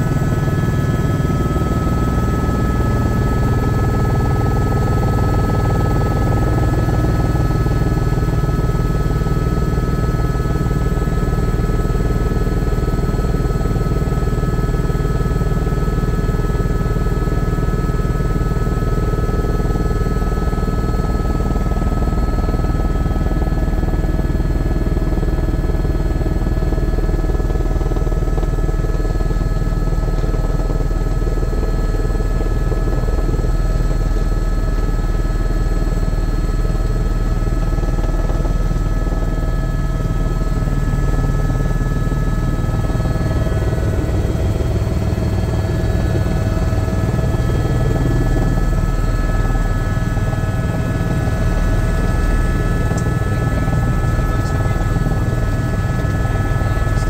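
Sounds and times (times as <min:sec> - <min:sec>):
helicopter drone: 0:00.0 - 0:57.0.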